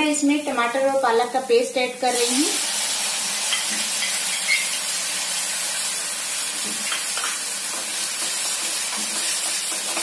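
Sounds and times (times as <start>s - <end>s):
paste sizzling in hot oil: 1.6s - 10.0s.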